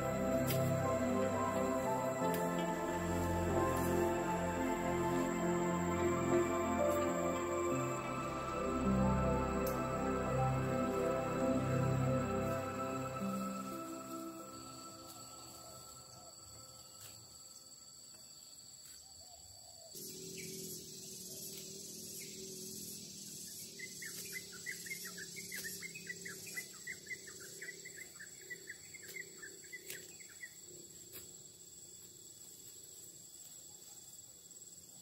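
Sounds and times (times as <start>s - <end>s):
pulsing insect chorus: 0.0s - 35.0s.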